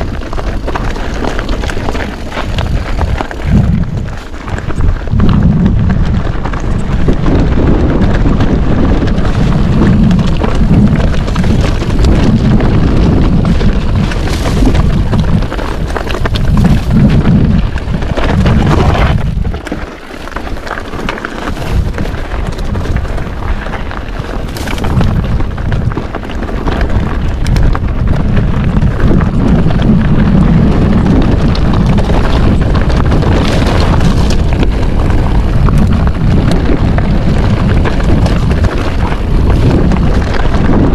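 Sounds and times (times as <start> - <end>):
bike tyres rattling over rocks: 0.0 - 40.9
wind buffeting microphone: 0.0 - 40.9.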